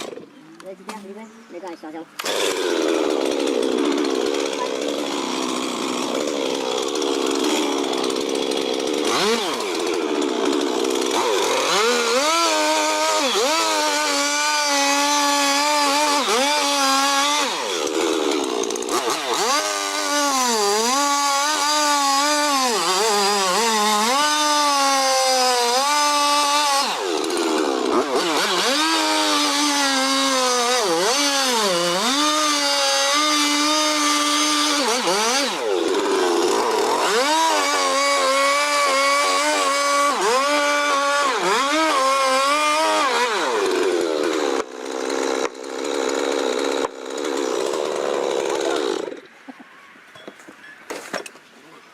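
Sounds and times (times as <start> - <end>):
chainsaw cutting wood: 0.0 - 49.4.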